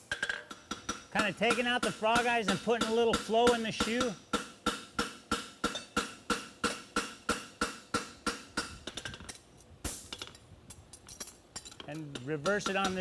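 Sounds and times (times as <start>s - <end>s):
hammer striking horseshoe on anvil: 0.0s - 10.4s, 11.2s - 13.0s.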